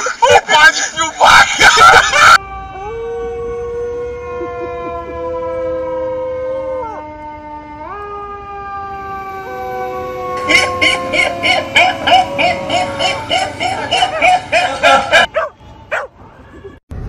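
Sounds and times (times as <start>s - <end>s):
fire engine siren wailing: 1.6s - 17.0s
dog howling: 2.2s - 16.1s.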